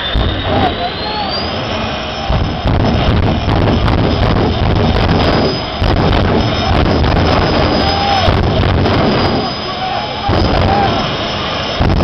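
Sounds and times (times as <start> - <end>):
turbine engine whining loudly: 0.0 - 12.0.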